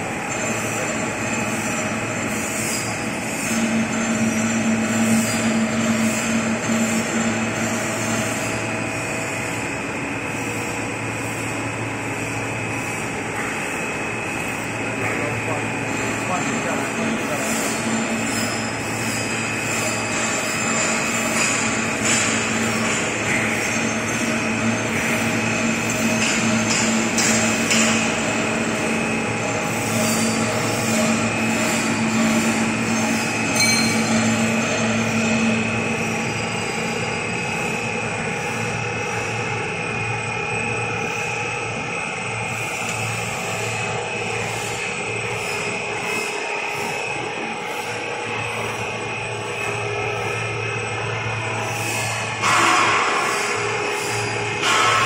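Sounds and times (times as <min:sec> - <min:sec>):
industrial machine hum and whirr: 0:00.0 - 0:55.0.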